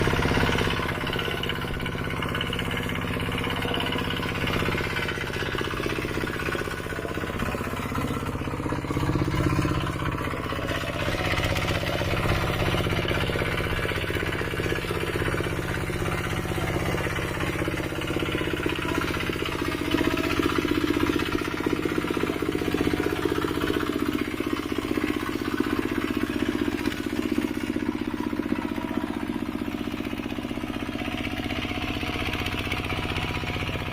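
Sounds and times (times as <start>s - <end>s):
tractor engine chugging: 0.0s - 33.9s.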